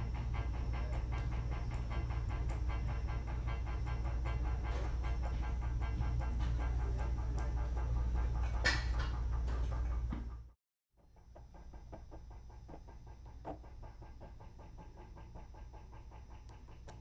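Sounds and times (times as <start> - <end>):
small winding motor ticking: 0.0 - 10.1, 11.0 - 17.0.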